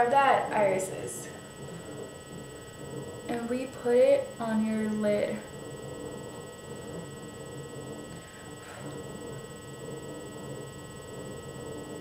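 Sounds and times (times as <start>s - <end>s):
faint high electrical whine: 0.0s - 12.0s.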